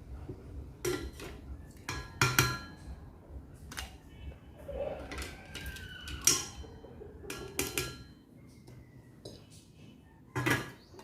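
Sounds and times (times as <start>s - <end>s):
kitchen items clicking and clinking: 0.8s - 3.0s, 3.6s - 4.2s, 5.0s - 11.0s.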